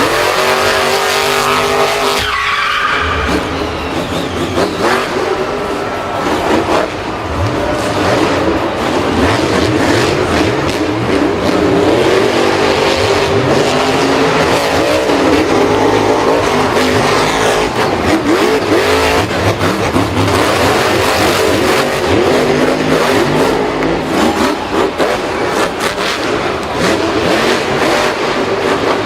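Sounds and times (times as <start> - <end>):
engines revving: 0.0 - 29.0.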